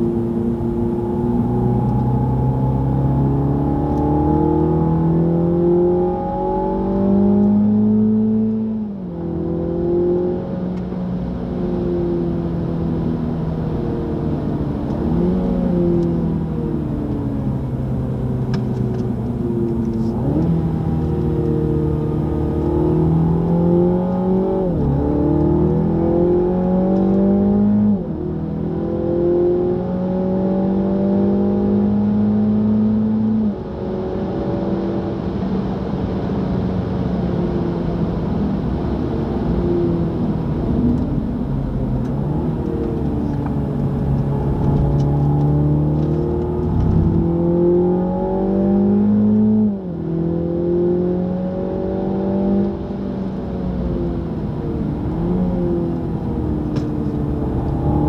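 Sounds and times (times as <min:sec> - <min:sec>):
car engine at full throttle: 0:00.0 - 0:58.0.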